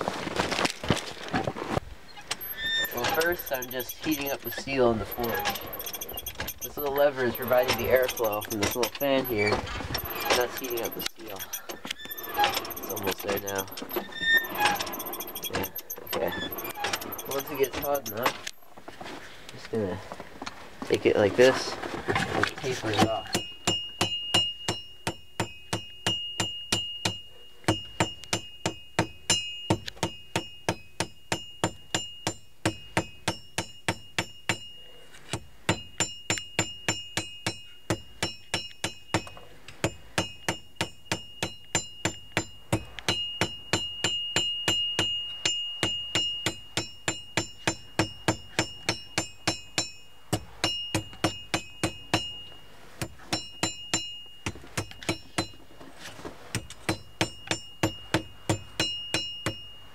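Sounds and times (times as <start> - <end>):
hammer striking steel on anvil: 2.4 - 18.4, 23.3 - 34.7, 35.3 - 52.4, 53.0 - 55.6, 56.6 - 59.7.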